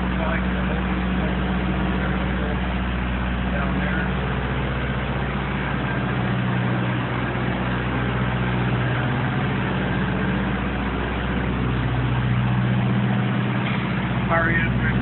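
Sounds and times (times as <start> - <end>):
large engine idling: 0.0 - 15.0.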